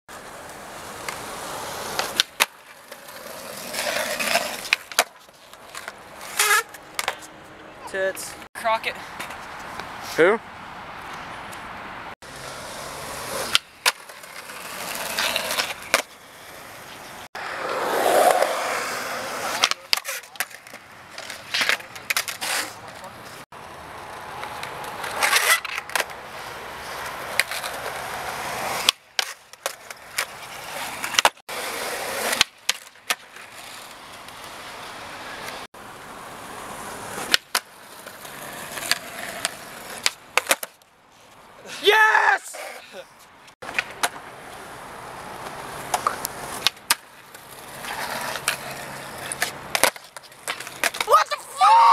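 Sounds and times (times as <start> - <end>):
skateboard clacking on ground: 0.1 - 9.9, 12.3 - 34.6, 36.8 - 40.9, 43.6 - 51.4
skateboard wheels rolling on concrete: 0.1 - 51.9.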